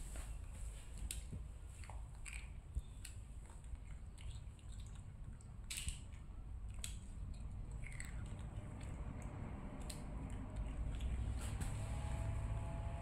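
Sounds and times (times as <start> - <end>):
monkey crunching potato chips: 1.0 - 11.4.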